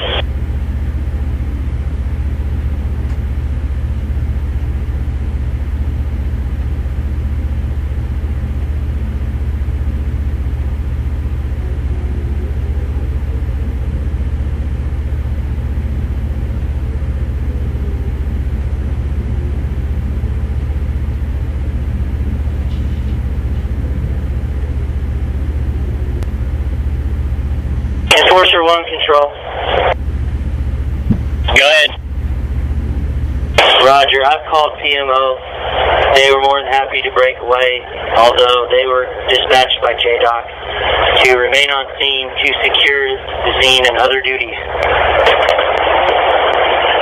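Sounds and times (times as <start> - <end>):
low mechanical drone: 0.0 - 47.0.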